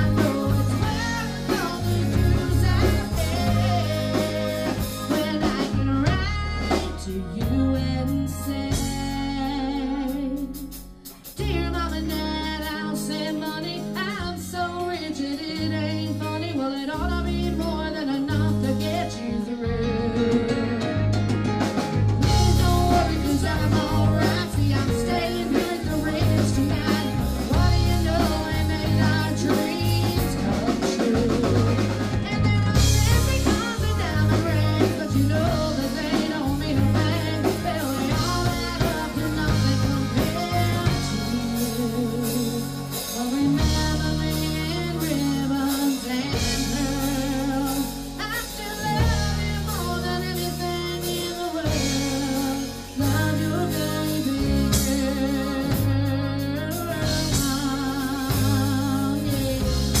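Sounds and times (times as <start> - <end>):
drum kit: 0.0 - 60.0
electric guitar: 0.0 - 60.0
keyboard: 0.0 - 60.0
woman singing into a microphone: 0.0 - 60.0.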